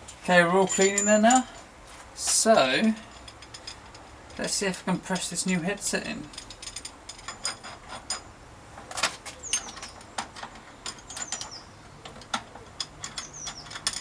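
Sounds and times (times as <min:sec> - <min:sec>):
metal parts clicking and clinking: 0:00.0 - 0:14.0.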